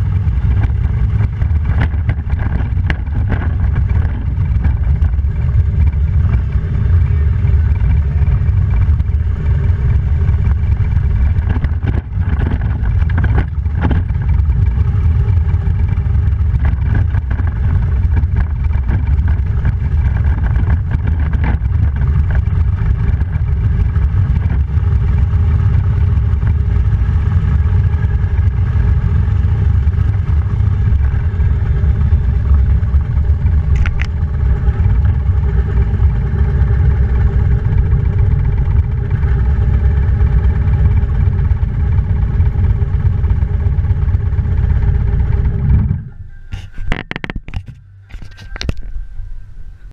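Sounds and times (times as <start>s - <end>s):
motorcycle engine rumble: 0.0s - 49.9s
wind rush: 0.0s - 49.9s.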